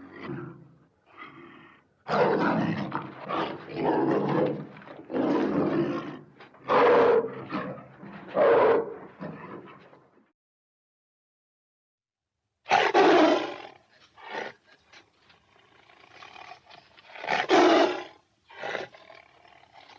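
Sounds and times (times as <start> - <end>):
tiger roaring and growling: 0.0 - 10.1, 12.7 - 14.7, 15.4 - 19.9.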